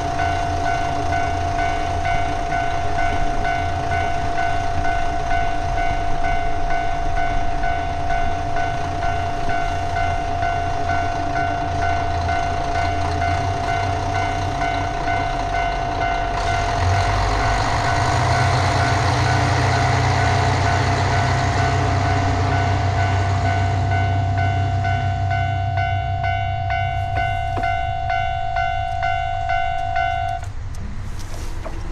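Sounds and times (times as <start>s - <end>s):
level crossing warning bell: 0.0s - 30.5s
diesel train rumbling: 0.0s - 31.9s.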